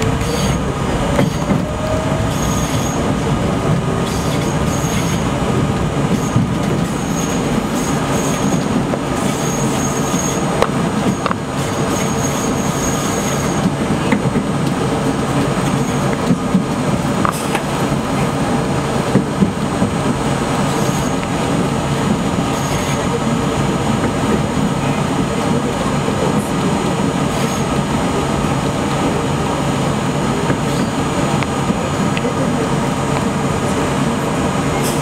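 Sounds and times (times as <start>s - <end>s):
train motor hum: 0.0s - 35.0s
train wheels rumbling on rail: 0.0s - 35.0s.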